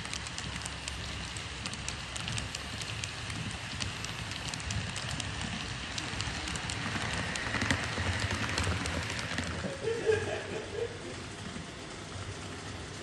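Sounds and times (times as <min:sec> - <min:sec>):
model train wheels rattling on track: 0:00.0 - 0:13.0.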